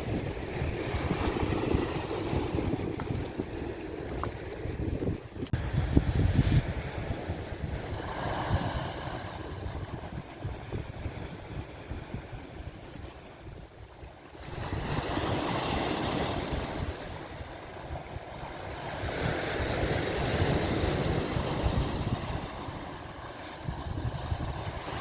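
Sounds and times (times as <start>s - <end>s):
sea waves breaking on shore: 0.0s - 25.0s
wind buffeting microphone: 0.0s - 25.0s.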